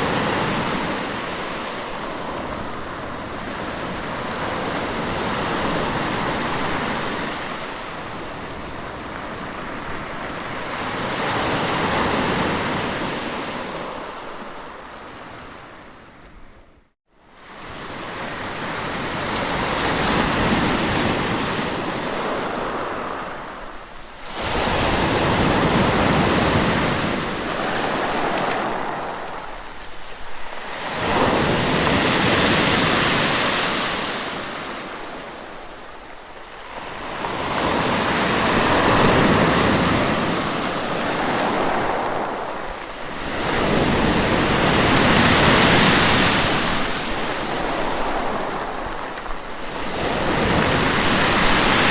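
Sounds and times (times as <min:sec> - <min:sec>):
sea waves washing ashore: 0:00.0 - 0:51.9.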